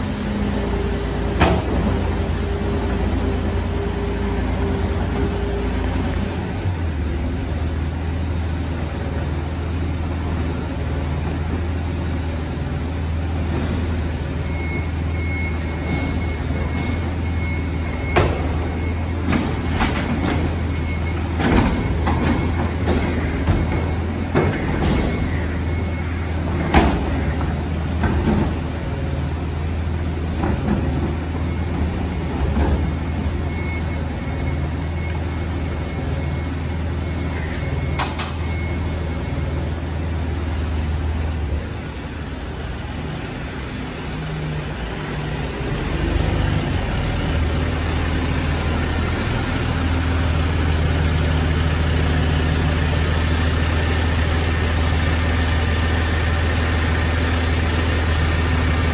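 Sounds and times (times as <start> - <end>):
garbage truck engine running: 0.0 - 58.9.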